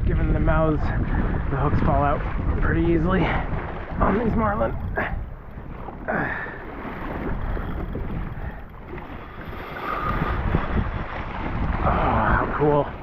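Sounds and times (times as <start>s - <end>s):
water sloshing around kayak: 0.0s - 13.0s
wind buffeting microphone: 0.0s - 13.0s.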